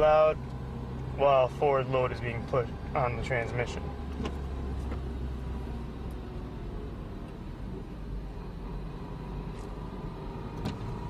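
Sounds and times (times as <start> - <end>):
engine and road drone: 0.0 - 11.0.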